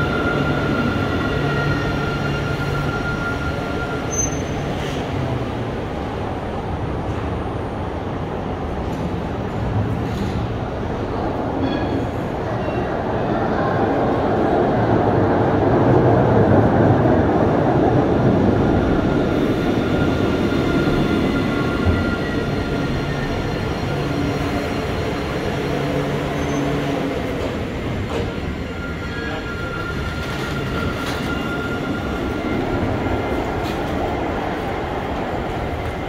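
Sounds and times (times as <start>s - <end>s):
tram rolling: 0.0s - 36.0s.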